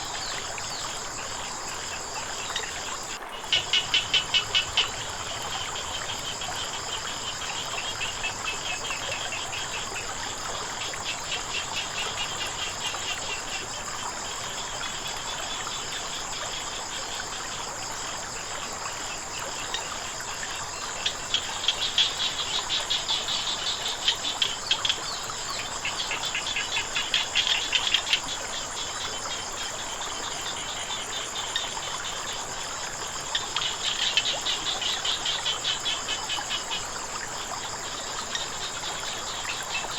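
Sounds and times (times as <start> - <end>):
flowing water: 0.0 - 39.9
frogs calling: 0.0 - 39.9.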